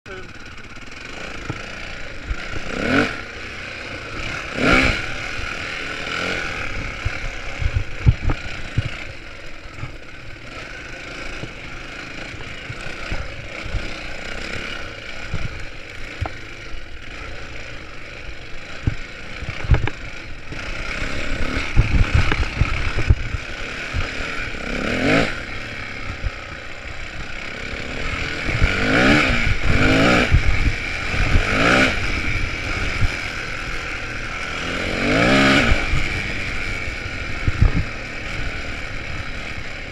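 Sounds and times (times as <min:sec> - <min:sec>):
motorcycle engine idling with revs: 0:00.1 - 0:39.9.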